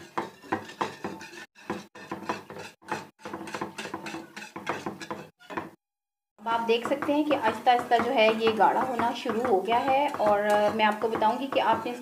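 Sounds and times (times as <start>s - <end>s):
spoon stirring and scraping pan: 0.0s - 5.8s, 6.5s - 12.0s.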